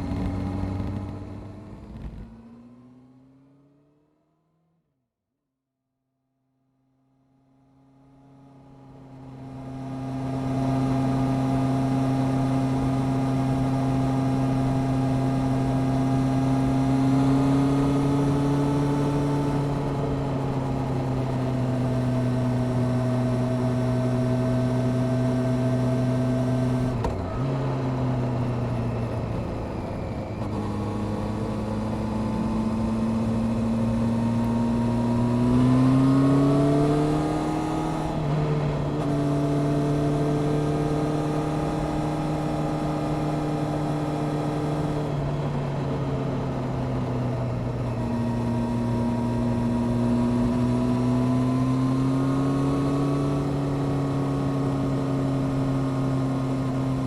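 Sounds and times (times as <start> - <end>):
motorcycle engine running: 0.0 - 2.6, 8.7 - 57.0.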